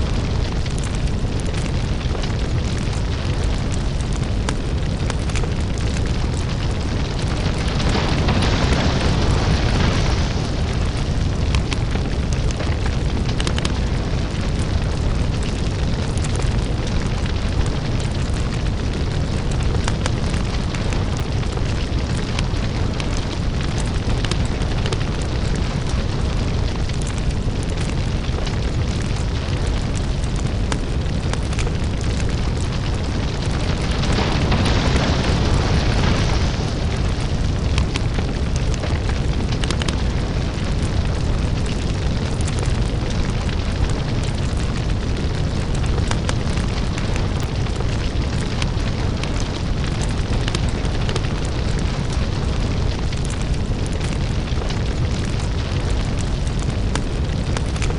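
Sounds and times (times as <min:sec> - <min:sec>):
crackles and pops: 0:00.0 - 0:57.9
deep rumble: 0:00.0 - 0:57.9.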